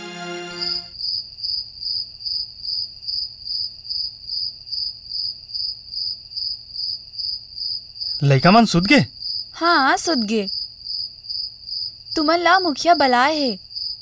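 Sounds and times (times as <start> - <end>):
cricket chirping: 1.0 - 14.0.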